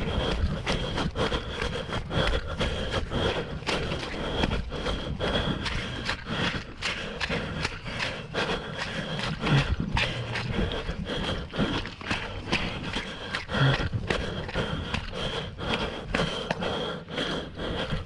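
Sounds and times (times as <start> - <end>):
running footsteps on a trail: 0.0 - 18.0.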